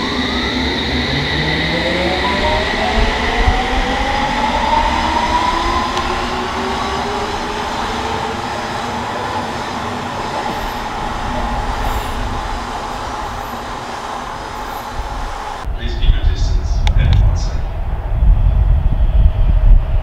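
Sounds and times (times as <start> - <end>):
train traction motor whine: 0.0 - 16.2
train wheels rumbling on rails: 0.0 - 20.0.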